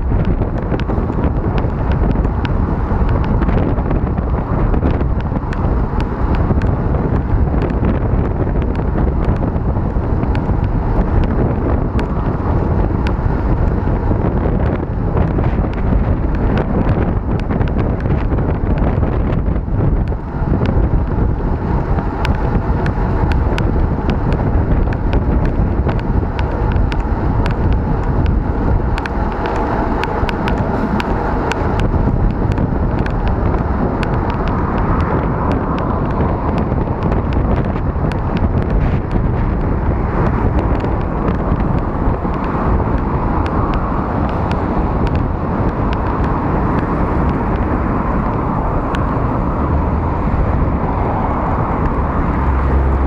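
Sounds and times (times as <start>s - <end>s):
bicycle clicks and rattles: 0.0s - 49.4s
wind buffeting microphone: 0.0s - 53.0s.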